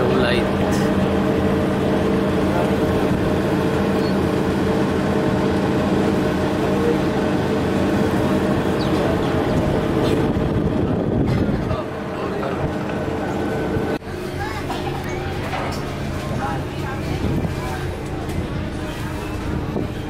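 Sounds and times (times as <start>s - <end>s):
constant rushing noise: 0.0s - 20.0s
diesel engines droning: 0.0s - 20.0s.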